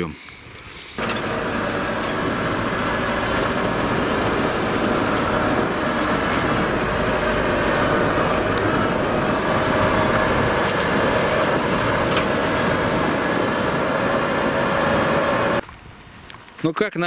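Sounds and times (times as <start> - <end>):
road noise: 0.0 - 17.0
car engine: 1.0 - 15.6.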